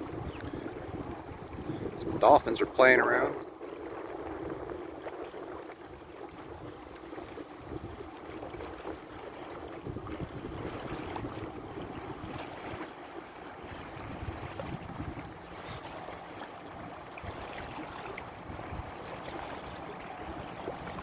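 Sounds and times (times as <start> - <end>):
water washing along boat hull: 0.0 - 21.0
wind buffeting microphone: 0.0 - 21.0.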